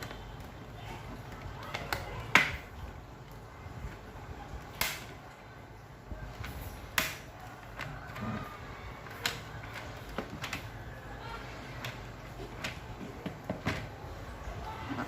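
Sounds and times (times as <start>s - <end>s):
plastic parts clicking and knocking: 0.0s - 5.4s, 6.0s - 15.0s.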